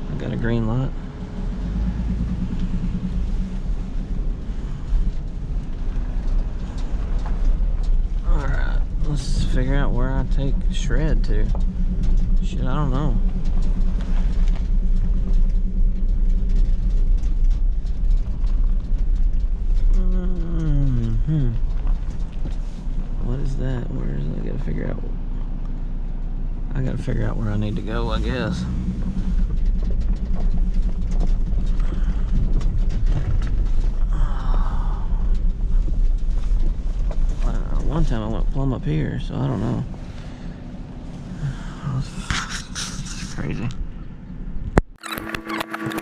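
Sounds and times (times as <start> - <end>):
faint rattles: 0.0 - 46.0
vehicle engine and road noise: 0.0 - 46.0.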